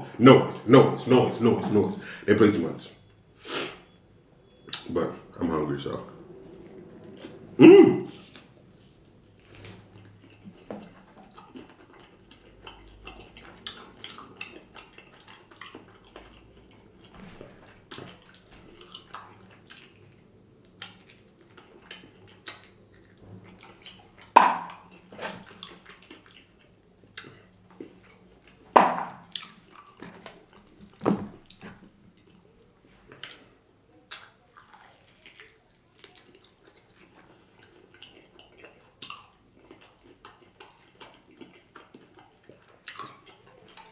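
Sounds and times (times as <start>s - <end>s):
wet chewing and lip smacking: 3.8s - 5.3s, 5.9s - 43.9s.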